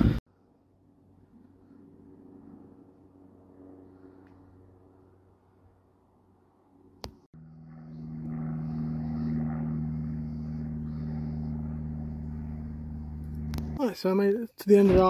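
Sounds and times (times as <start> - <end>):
engine drone: 0.0 - 13.8.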